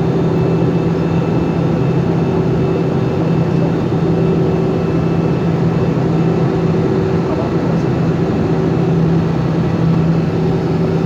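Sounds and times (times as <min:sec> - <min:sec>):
jet engine drone and airflow: 0:00.0 - 0:11.0.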